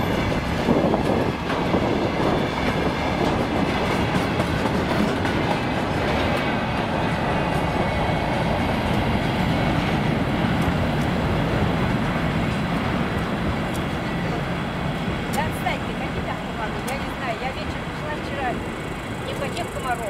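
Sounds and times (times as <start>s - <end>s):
freight train rumbling: 0.0s - 20.0s
train wheels clicking: 0.0s - 20.0s.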